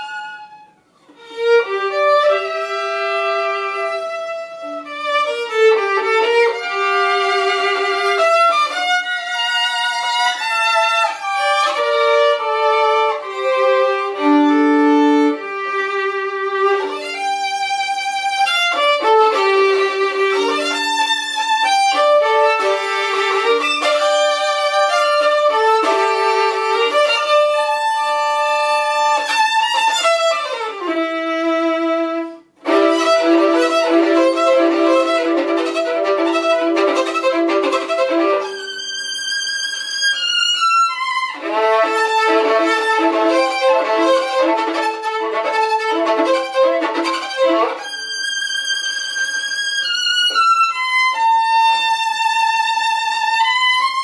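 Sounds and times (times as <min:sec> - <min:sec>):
solo violin playing: 0:00.0 - 0:54.0.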